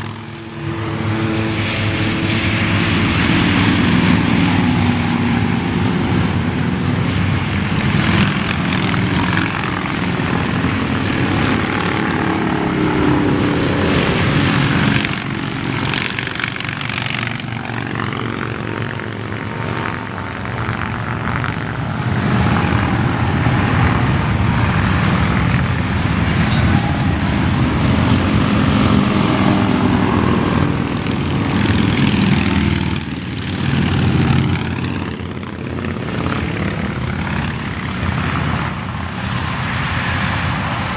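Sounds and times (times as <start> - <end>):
motorcycles riding past: 0.0 - 40.9.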